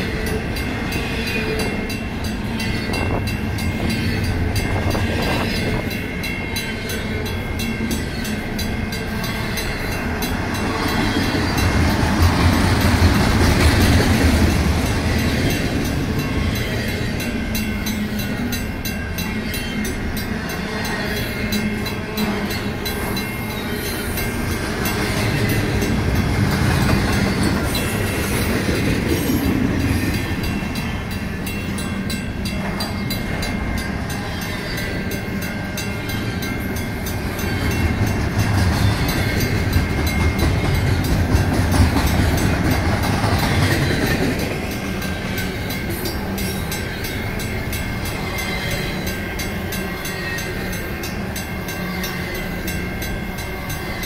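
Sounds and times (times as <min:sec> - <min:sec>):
crossing bell ringing: 0:00.0 - 0:54.0
freight train rumbling past: 0:00.0 - 0:54.0.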